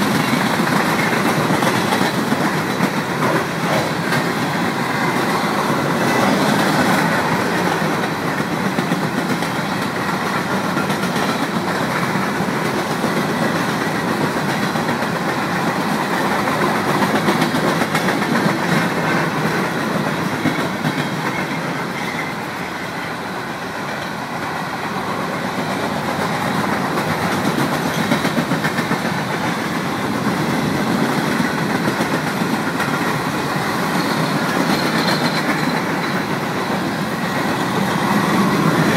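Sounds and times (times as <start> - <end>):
train wheels rolling on rail: 0.0 - 38.9.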